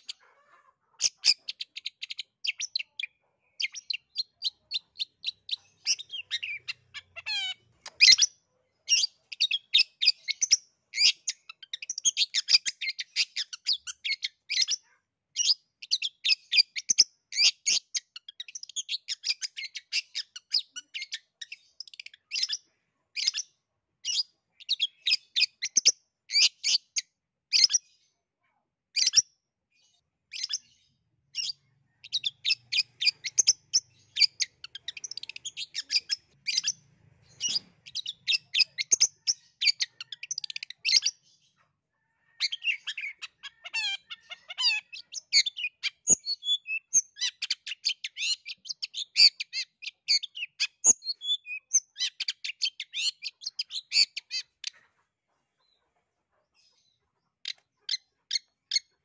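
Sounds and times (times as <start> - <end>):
bird singing rapid chatter: 0.9 - 28.0, 29.0 - 54.8.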